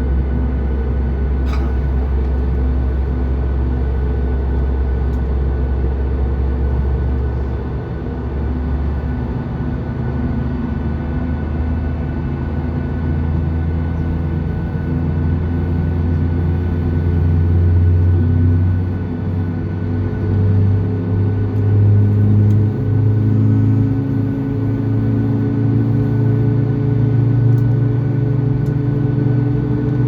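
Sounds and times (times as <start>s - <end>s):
jet engines droning in cabin: 0.0s - 30.0s.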